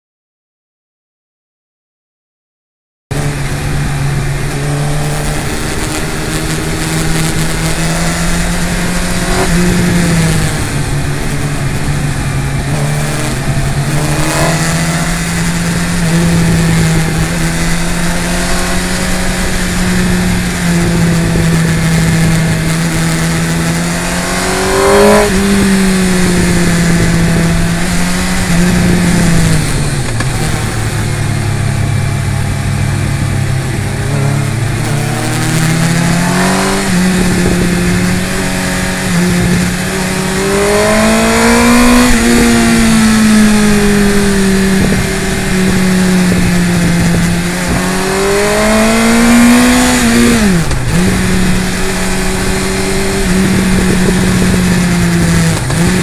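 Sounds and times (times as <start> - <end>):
motorcycle engine running at speed: 3.1 - 56.0
wind rushing over microphone: 3.1 - 56.0.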